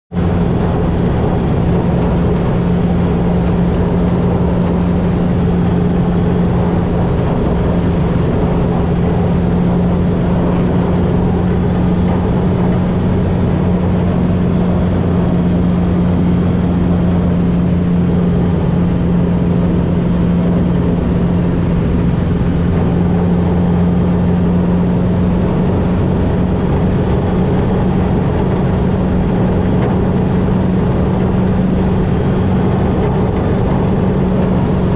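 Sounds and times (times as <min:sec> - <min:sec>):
light aircraft engine and propeller: 0:00.1 - 0:34.9.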